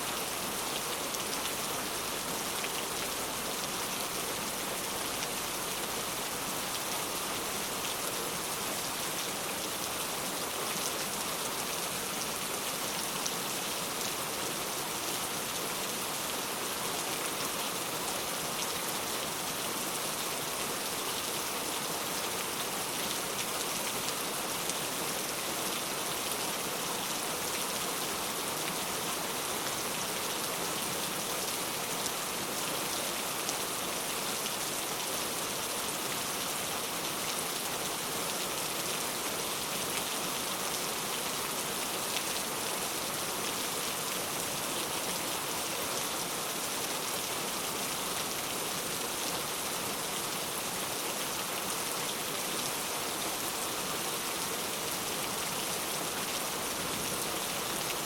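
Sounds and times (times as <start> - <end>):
rain pattering on a surface: 0.1 - 58.0.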